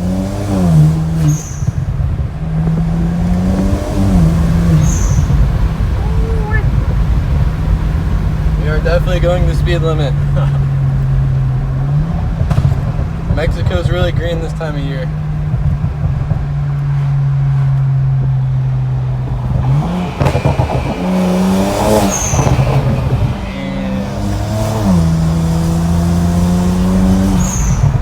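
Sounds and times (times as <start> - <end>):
car engine revving under load: 0.0 - 28.0.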